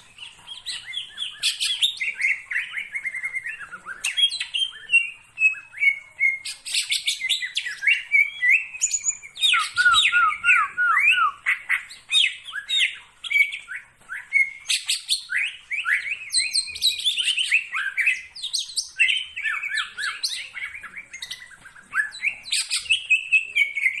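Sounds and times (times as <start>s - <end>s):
bird chirping and whistling: 0.1s - 24.0s.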